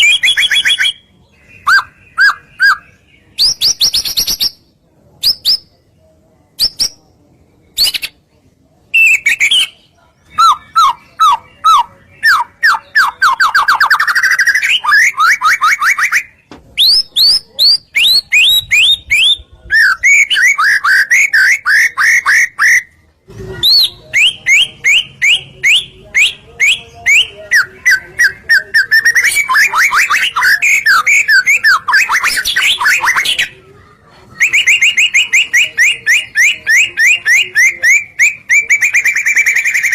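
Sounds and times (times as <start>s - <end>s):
songbird singing trills: 0.0s - 5.8s, 8.9s - 23.0s, 23.6s - 33.6s, 34.4s - 39.9s.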